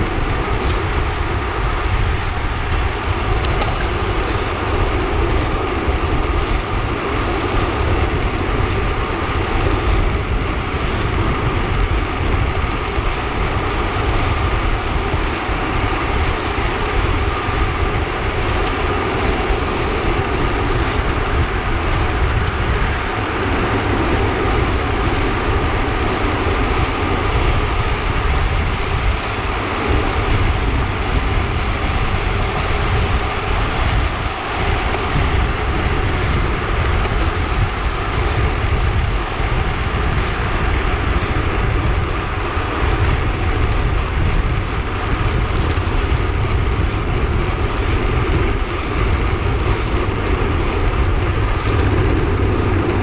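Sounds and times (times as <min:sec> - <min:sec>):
heavy low rumble: 0:00.0 - 0:53.0
wind rushing over microphone: 0:00.0 - 0:53.0.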